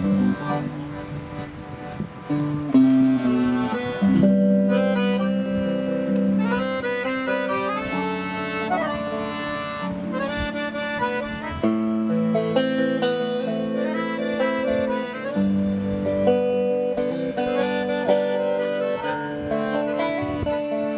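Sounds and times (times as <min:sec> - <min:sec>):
accordion melody: 0:00.0 - 0:20.9
guitar accompaniment: 0:00.0 - 0:20.9.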